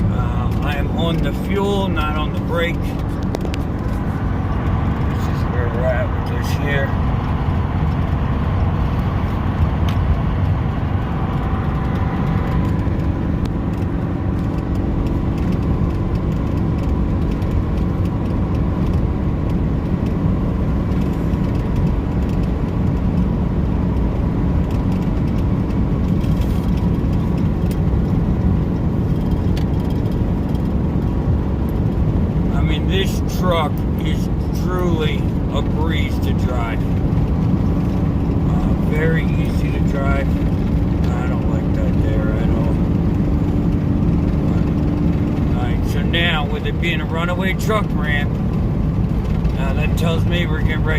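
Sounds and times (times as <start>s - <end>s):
diesel truck engine under throttle: 0.0s - 50.9s
road noise: 0.0s - 50.9s.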